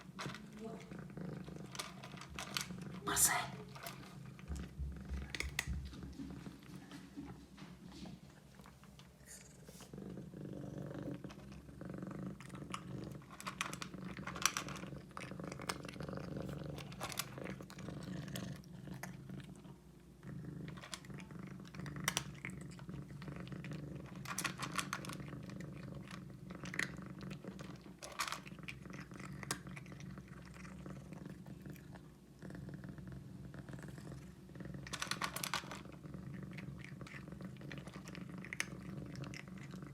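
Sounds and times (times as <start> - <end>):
cat chewing food: 0.0 - 39.9
cat purring: 0.0 - 39.9.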